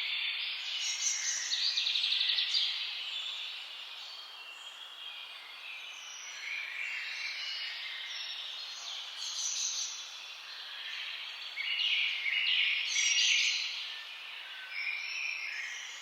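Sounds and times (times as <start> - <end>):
faint outdoor hiss: 0.0 - 16.0
songbirds singing and calling: 0.0 - 16.0.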